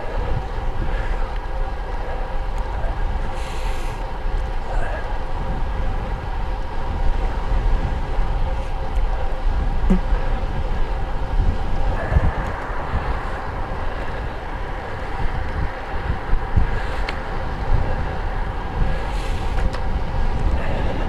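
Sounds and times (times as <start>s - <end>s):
tyres rolling on pavement: 0.0s - 21.0s
wind buffeting the microphone: 0.0s - 21.0s.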